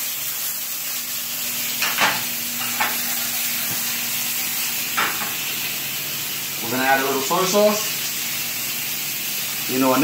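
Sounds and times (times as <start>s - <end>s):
steak sizzling in a frying pan: 0.0s - 10.0s.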